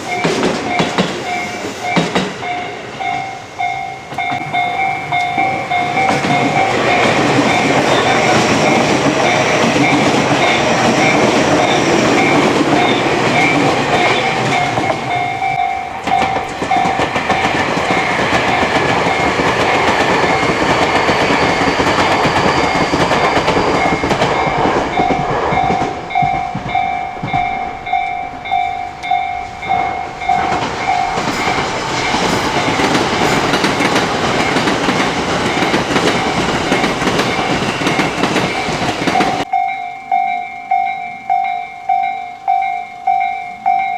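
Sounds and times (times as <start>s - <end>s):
train wheels clattering: 0.0s - 40.2s
level-crossing bell clanging: 0.0s - 43.9s.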